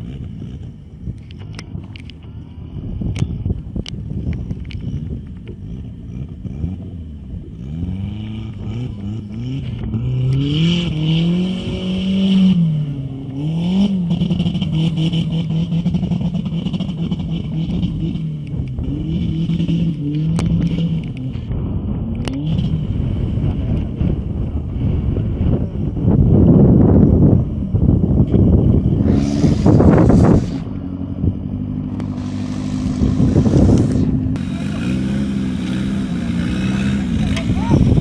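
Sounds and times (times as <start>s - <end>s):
buggy engine revving: 0.0s - 38.0s.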